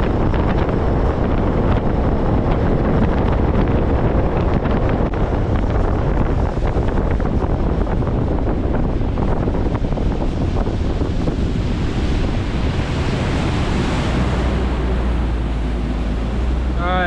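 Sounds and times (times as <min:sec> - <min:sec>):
water rushing past boat: 0:00.0 - 0:17.0
wind buffeting microphone: 0:00.0 - 0:17.0.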